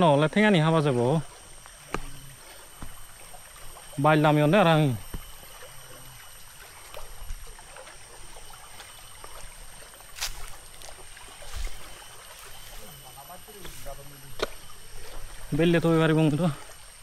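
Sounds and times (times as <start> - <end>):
stream trickling: 0.0 - 17.0.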